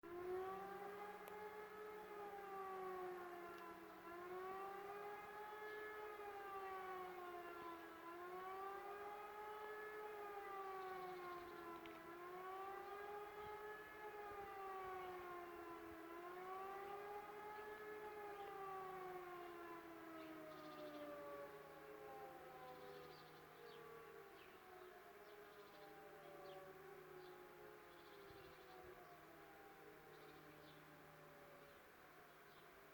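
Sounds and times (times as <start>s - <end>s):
warning siren wailing: 0.0s - 32.6s.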